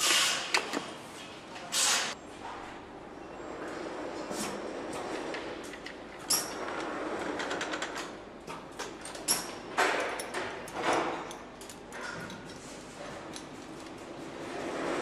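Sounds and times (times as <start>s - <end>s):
steady factory hum: 0.0s - 15.0s.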